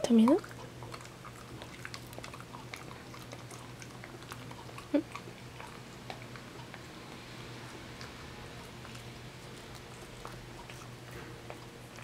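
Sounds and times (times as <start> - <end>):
cat chewing crunchily: 0.1 - 12.0.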